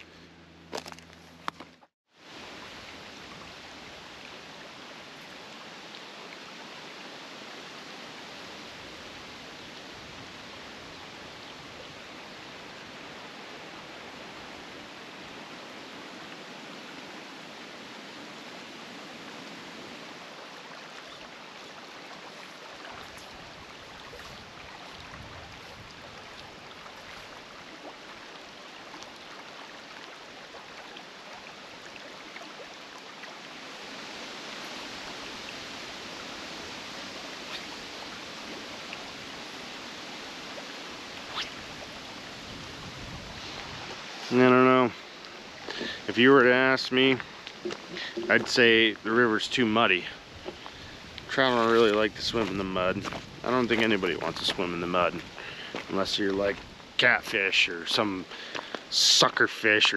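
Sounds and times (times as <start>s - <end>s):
creek water rushing over rocks: 2.1s - 59.9s.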